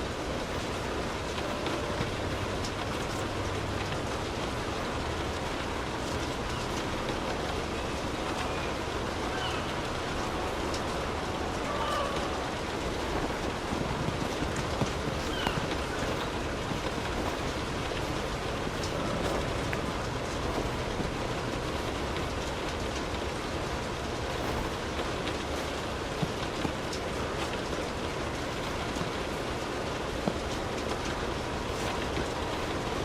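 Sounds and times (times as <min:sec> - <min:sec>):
light rain on a car: 0:00.0 - 0:33.0
rain drop ticks: 0:00.0 - 0:33.0.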